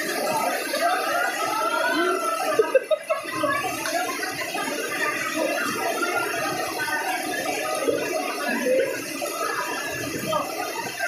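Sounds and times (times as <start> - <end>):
crowd shouting and chattering: 0.0 - 11.0.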